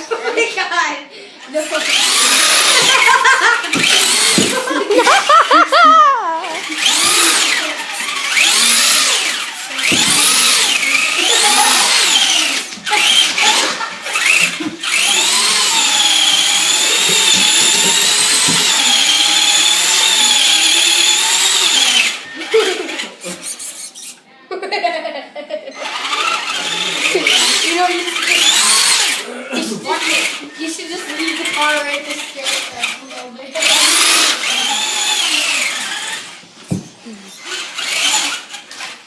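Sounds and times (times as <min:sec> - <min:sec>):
rc car motor whining: 0:01.6 - 0:05.4, 0:06.4 - 0:24.2, 0:25.8 - 0:29.3, 0:29.9 - 0:36.5, 0:37.2 - 0:39.0.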